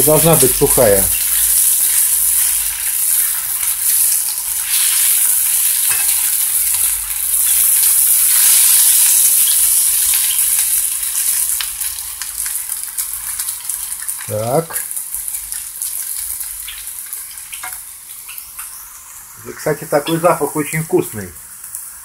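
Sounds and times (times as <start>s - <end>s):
potatoes sizzling in frying pan: 0.0s - 22.0s.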